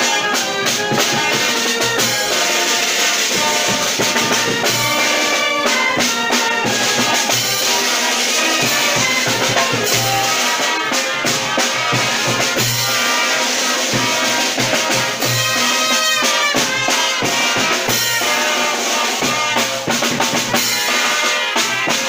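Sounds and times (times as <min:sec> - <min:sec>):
music with drum beat: 0:00.0 - 0:22.0.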